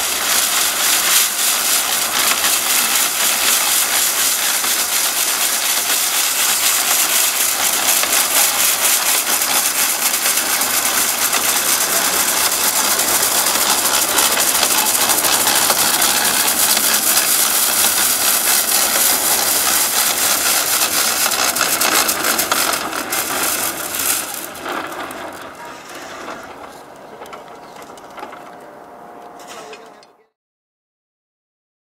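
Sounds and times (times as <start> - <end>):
rotary broom sweeping snow: 0.0 - 28.8.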